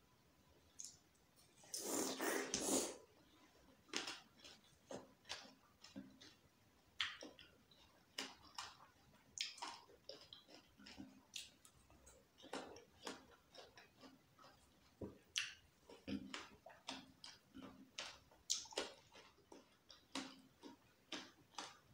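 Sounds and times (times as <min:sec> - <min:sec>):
watermelon being chewed: 0:01.6 - 0:21.9.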